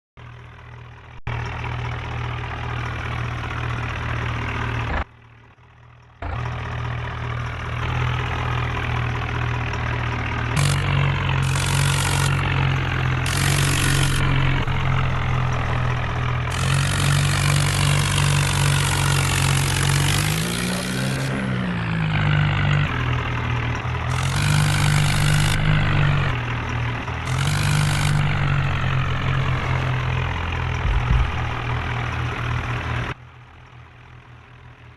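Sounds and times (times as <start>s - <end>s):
diesel tractor engine running: 0.2s - 34.9s.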